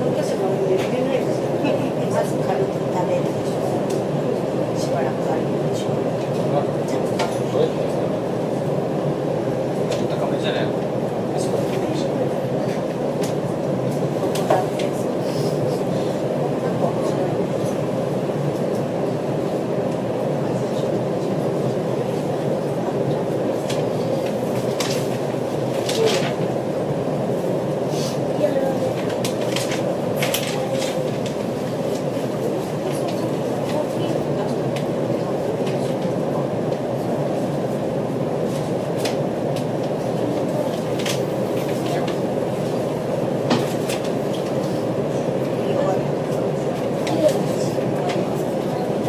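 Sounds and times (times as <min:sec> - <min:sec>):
train carriage rumble: 0:00.0 - 0:49.0.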